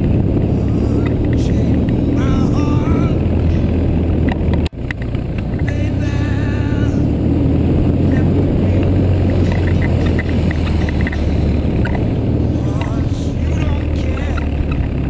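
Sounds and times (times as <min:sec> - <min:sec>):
motorcycle engine cruising: 0:00.0 - 0:15.0
wind rushing over microphone: 0:00.0 - 0:15.0.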